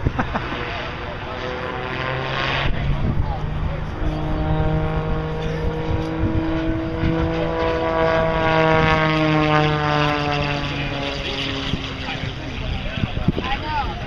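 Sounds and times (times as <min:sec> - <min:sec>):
propeller airplane flying past: 0:00.0 - 0:14.0.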